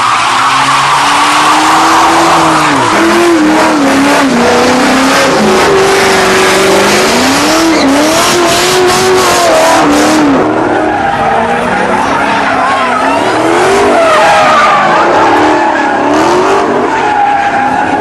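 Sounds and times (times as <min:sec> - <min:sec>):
car engine driven hard: 0:00.0 - 0:18.0.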